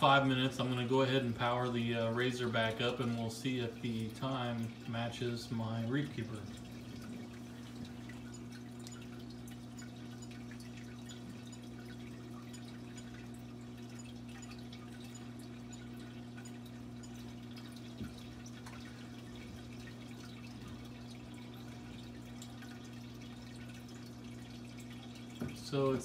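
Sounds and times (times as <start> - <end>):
low electrical hum: 0.0 - 26.0
water dripping and trickling: 0.0 - 26.0.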